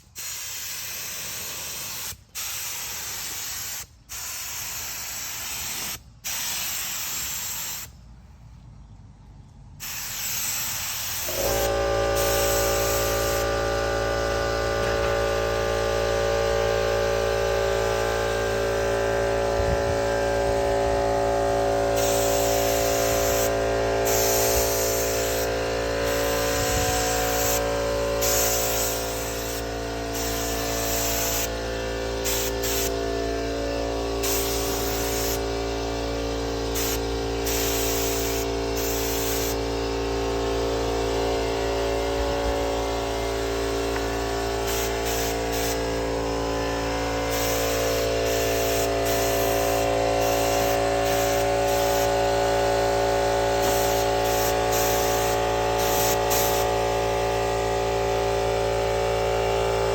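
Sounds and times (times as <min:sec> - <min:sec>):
paint spray hissing: 0:00.0 - 0:08.0, 0:09.8 - 0:13.8, 0:17.3 - 0:58.0
machine hum: 0:11.3 - 0:59.9.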